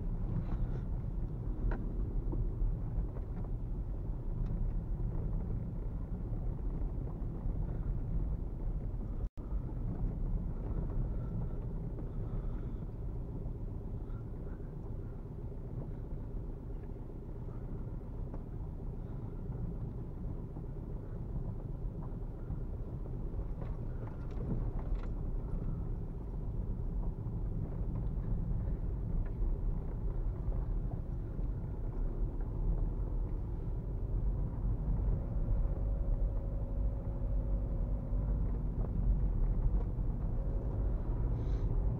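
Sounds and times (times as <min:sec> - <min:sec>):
diesel engine at low revs: 0:00.0 - 0:41.9
tyre and suspension rumble: 0:00.0 - 0:41.9.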